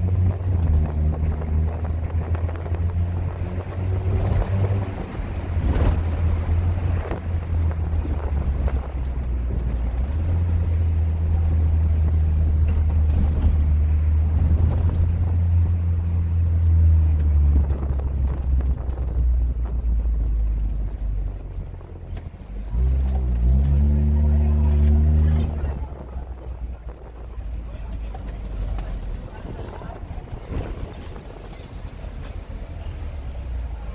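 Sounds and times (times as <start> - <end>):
car engine deep exhaust drone: 0.0 - 33.9.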